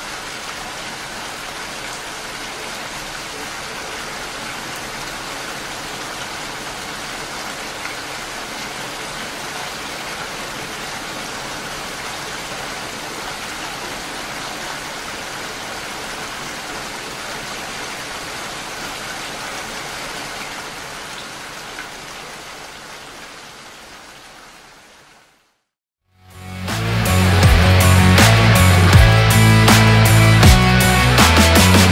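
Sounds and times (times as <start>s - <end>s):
steady rain falling: 0.0s - 25.7s, 27.3s - 31.9s.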